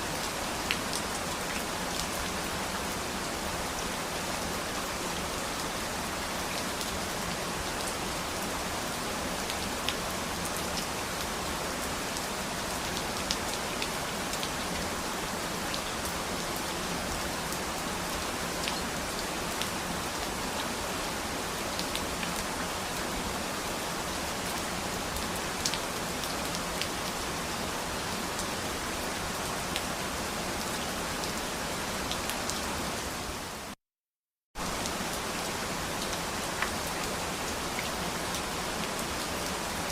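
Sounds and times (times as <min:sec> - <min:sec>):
rain falling on a surface: 0:00.0 - 0:33.8, 0:34.6 - 0:39.9.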